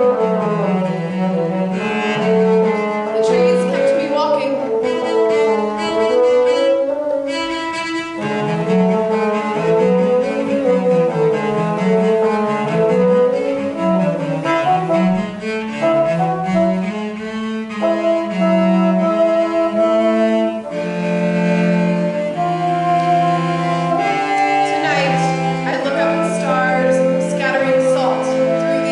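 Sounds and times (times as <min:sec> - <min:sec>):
bassoon: 0:00.0 - 0:28.9
cello: 0:00.0 - 0:28.9.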